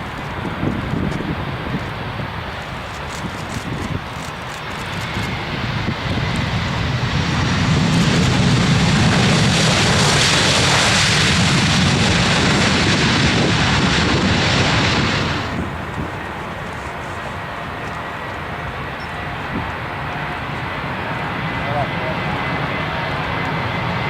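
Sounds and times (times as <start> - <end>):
airliner engines roaring: 0.0 - 24.0.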